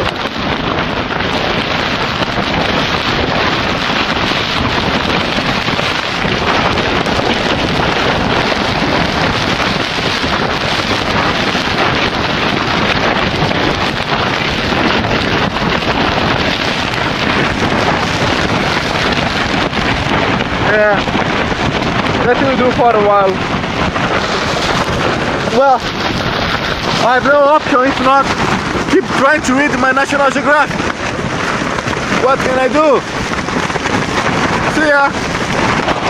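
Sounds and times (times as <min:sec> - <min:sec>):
wind buffeting a tent: 0:00.0 - 0:36.0.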